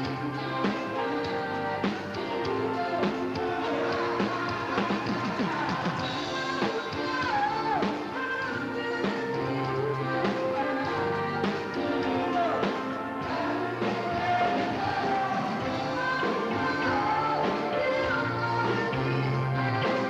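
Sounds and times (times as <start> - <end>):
band playing: 0.0 - 20.0
person singing: 0.0 - 20.0.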